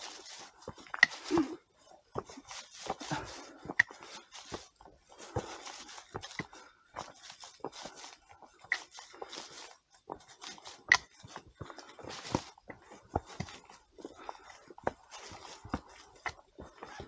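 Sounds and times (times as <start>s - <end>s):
footsteps on a trail: 0.0s - 17.0s.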